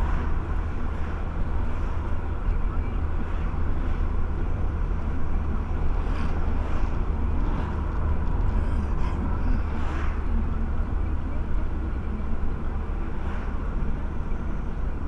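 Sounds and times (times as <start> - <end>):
car cabin engine and tyre rumble: 0.0 - 15.0.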